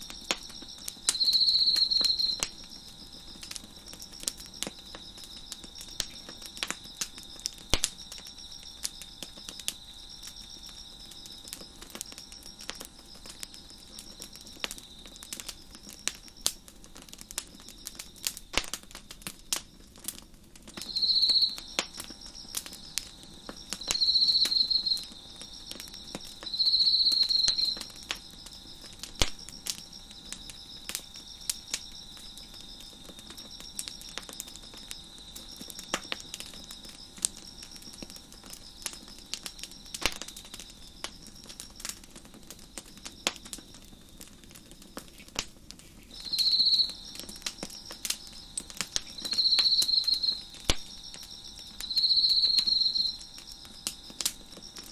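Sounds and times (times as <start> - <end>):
crickets chirping: 0.0 - 54.9
wood fire crackling and popping: 0.0 - 54.9.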